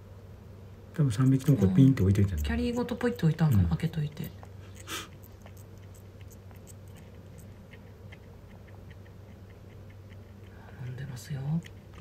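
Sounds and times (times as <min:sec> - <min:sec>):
low steady hum: 0:00.0 - 0:12.0
kitten sucking clicks: 0:01.1 - 0:12.0.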